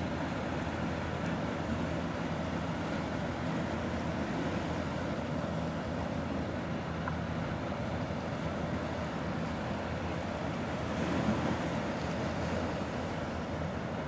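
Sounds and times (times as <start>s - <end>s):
ship engine drone: 0.0s - 14.0s.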